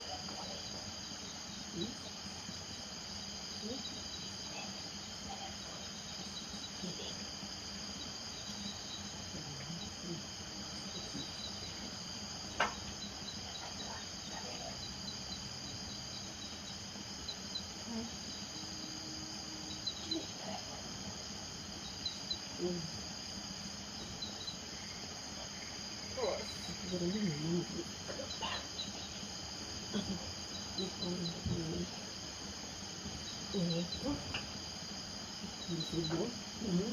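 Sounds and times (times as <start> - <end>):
crickets trilling: 0.0 - 36.9
frogs calling: 0.0 - 36.9.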